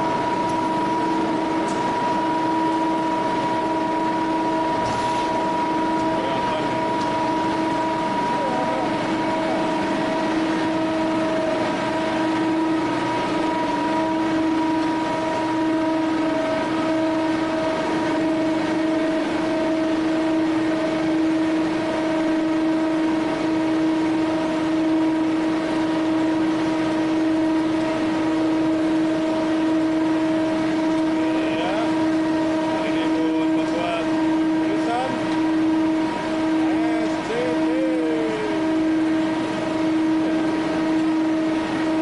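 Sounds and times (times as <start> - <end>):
vacuum loader suction whine: 0.0 - 42.0.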